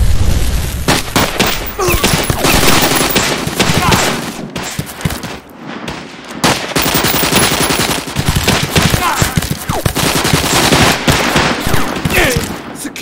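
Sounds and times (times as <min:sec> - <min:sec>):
rapid machine-gun fire: 0:00.9 - 0:12.7.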